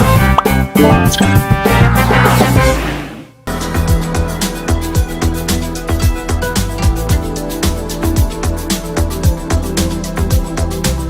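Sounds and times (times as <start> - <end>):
background music with steady beat: 0.0 - 2.9, 3.5 - 11.0.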